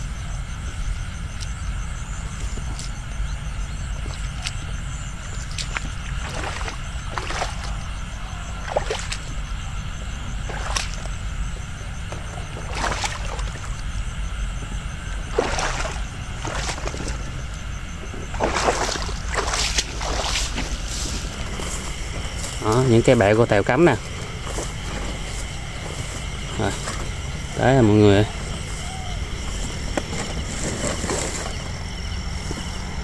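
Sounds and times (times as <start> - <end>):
steady low rumble: 0.0 - 33.0
swishing steps in wet field: 0.7 - 14.0, 15.0 - 33.0.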